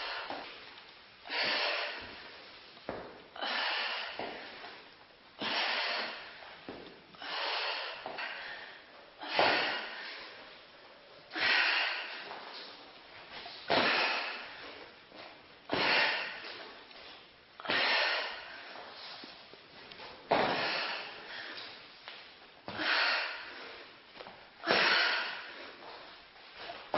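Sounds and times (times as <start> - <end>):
woman breathing hard: 0.0 - 0.6, 1.2 - 2.5, 3.3 - 4.8, 5.4 - 13.0, 13.6 - 15.0, 15.6 - 19.5, 20.3 - 22.0, 22.6 - 26.8.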